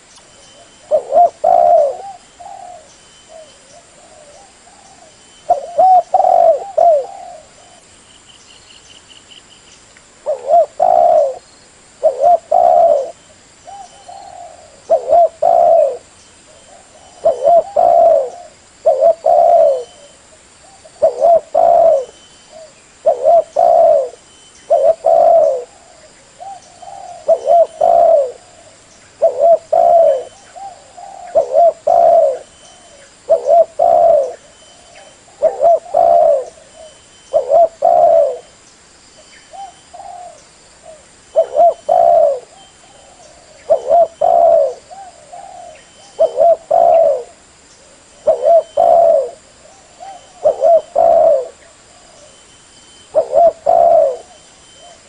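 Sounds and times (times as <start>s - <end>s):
dove cooing: 0.0s - 7.9s, 10.2s - 38.5s, 39.5s - 52.5s, 53.1s - 55.0s.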